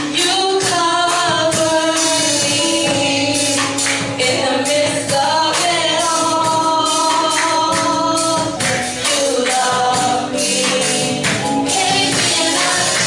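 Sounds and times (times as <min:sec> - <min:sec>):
group singing gospel song: 0:00.0 - 0:13.0
instrumental accompaniment: 0:00.0 - 0:13.0.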